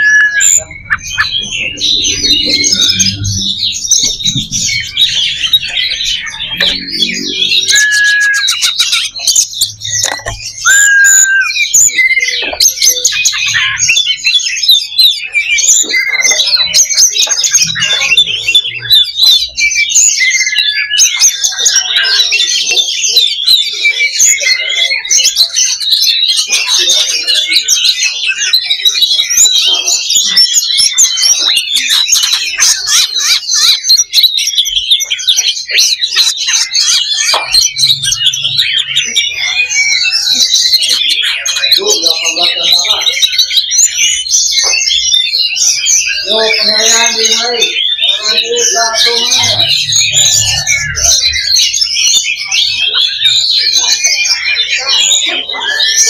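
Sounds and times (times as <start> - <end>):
birds singing: 0.0 - 56.0.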